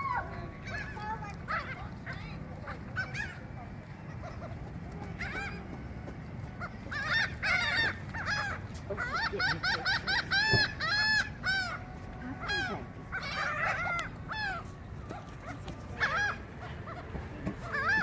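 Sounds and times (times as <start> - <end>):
seagulls calling: 0.0 - 18.0.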